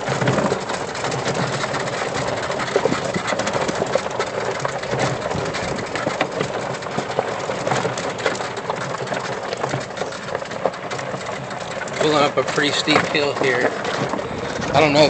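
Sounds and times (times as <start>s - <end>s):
tires crunching on dirt: 0.0s - 15.0s.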